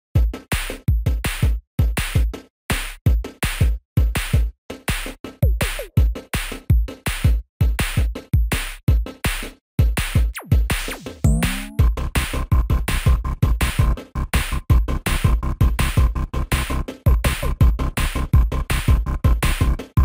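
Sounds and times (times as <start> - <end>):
electronic music with drum-machine beat: 0.2 - 20.0.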